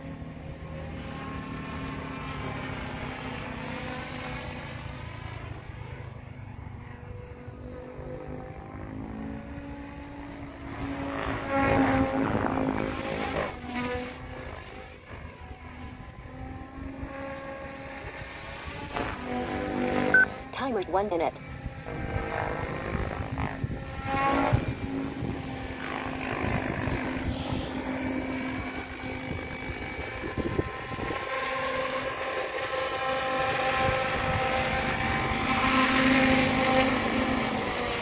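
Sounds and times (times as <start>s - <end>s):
rc helicopter rotor hum: 0.0s - 38.0s.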